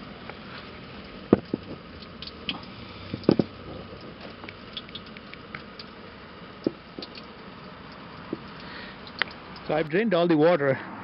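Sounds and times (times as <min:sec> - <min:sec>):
water draining and pattering: 0:00.1 - 0:10.5.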